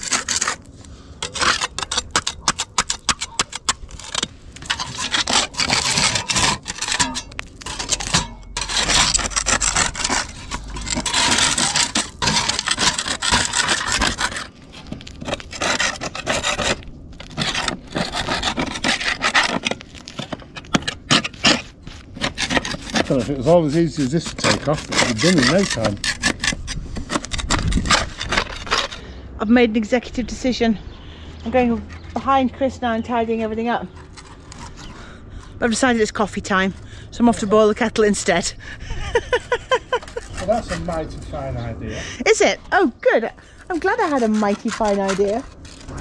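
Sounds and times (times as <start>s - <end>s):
metal scraper scraping a wall: 0.0s - 29.1s, 31.5s - 41.5s, 42.3s - 46.0s.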